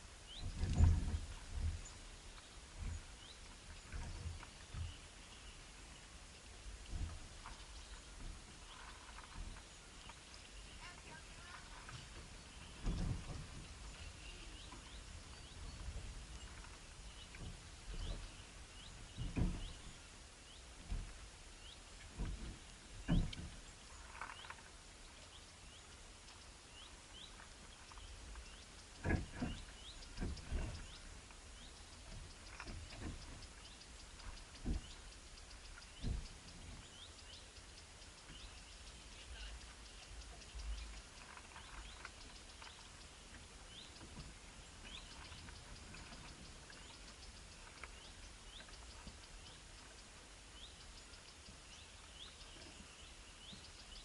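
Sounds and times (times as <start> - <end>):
small birds chirping: 0.2 - 54.0.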